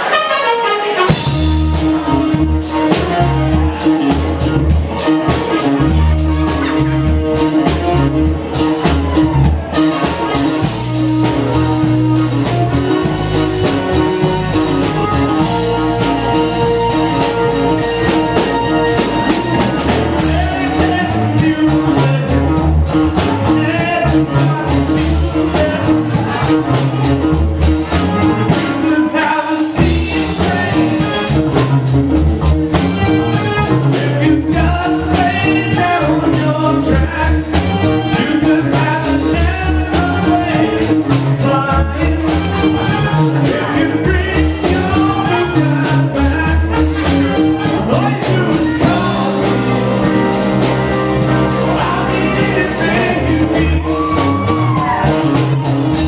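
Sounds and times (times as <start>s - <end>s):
drum kit beat: 0.0s - 56.0s
electric guitar: 0.0s - 56.0s
keyboards: 0.0s - 56.0s
electric bass: 1.0s - 56.0s.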